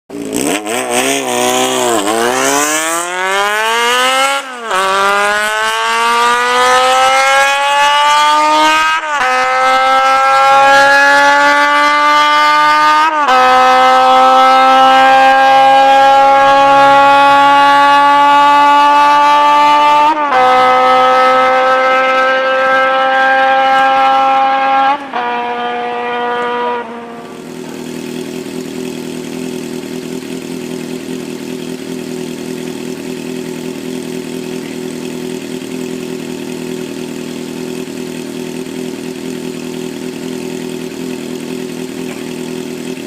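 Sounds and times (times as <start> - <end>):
motorcycle engine accelerating: 0.1 - 43.0.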